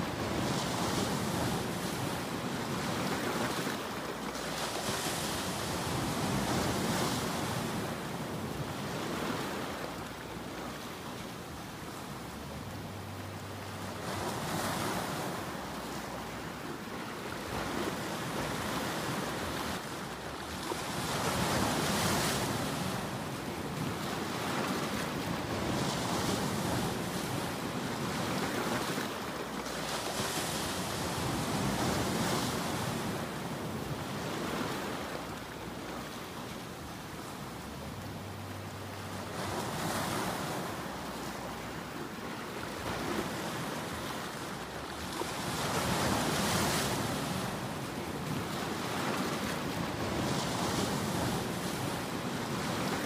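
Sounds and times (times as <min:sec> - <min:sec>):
ocean waves breaking: 0:00.0 - 0:53.0.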